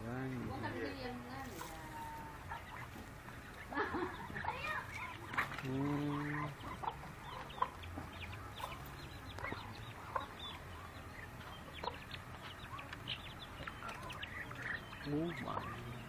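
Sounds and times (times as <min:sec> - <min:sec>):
poultry peeping and chirping: 0:00.0 - 0:16.0.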